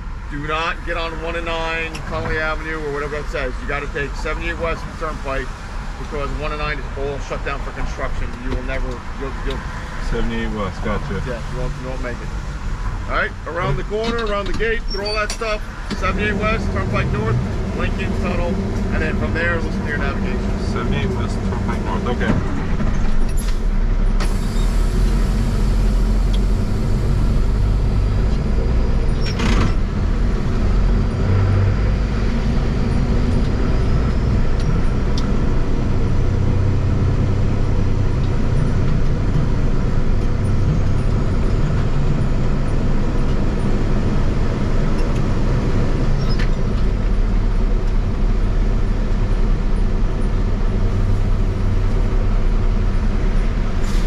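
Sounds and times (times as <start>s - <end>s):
road noise: 0.0s - 54.0s
truck engine rumbling: 0.0s - 54.0s.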